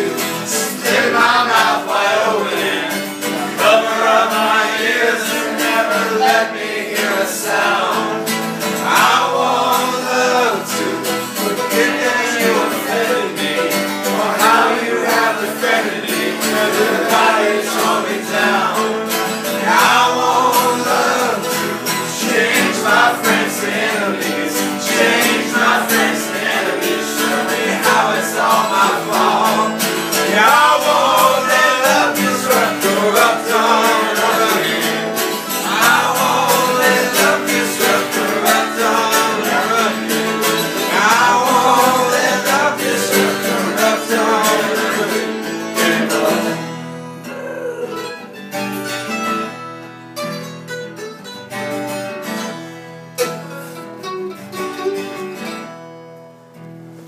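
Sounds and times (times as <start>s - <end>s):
man singing: 0.0s - 48.2s
acoustic guitar strumming: 0.0s - 57.0s.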